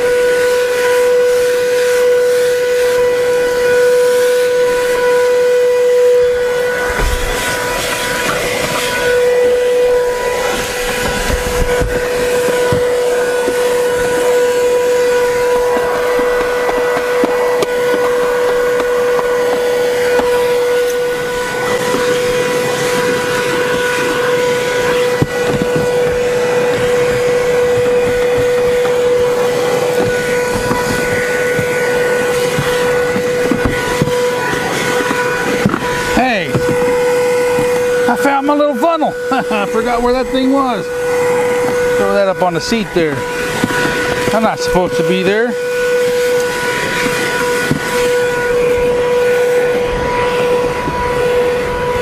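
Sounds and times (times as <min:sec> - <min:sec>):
vacuum cleaner motor whine: 0:00.0 - 0:52.0.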